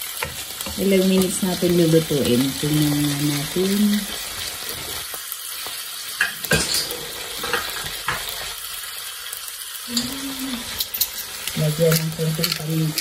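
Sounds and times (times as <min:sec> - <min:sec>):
meat and onions sizzling: 0:00.0 - 0:13.0.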